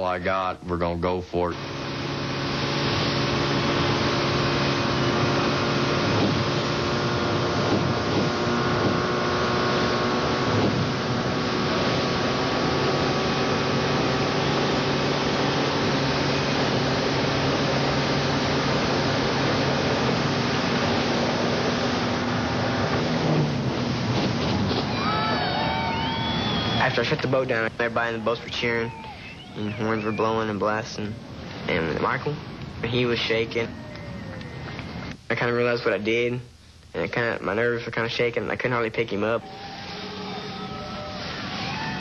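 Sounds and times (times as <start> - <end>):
motorboat engines at high speed: 1.4 - 35.2, 38.4 - 42.0.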